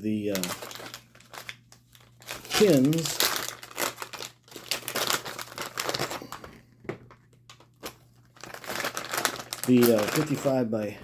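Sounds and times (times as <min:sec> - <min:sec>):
plastic packaging crinkling: 0:00.1 - 0:10.9.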